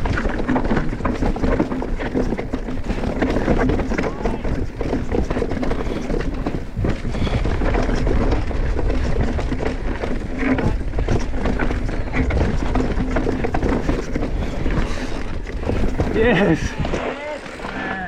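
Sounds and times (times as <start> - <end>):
bike rattling over rocks: 0.0 - 18.0
wind rumble on microphone: 0.0 - 18.0.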